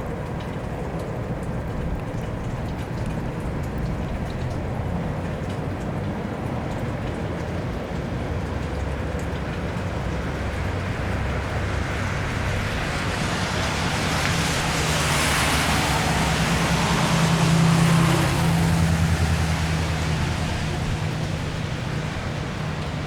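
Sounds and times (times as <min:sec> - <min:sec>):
low engine hum: 0:00.0 - 0:23.0
tyres hissing on wet road: 0:03.1 - 0:23.0.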